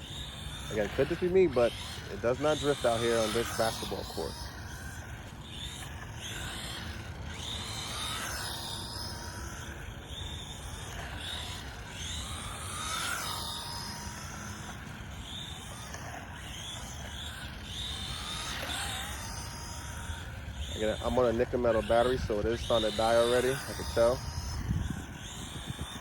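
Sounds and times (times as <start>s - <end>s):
electric rc car motor whining: 0.0s - 26.0s.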